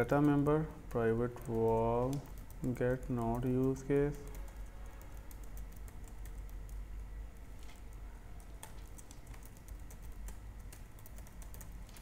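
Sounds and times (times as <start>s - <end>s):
computer keyboard typing: 0.0s - 12.0s
low steady hum: 0.0s - 12.0s.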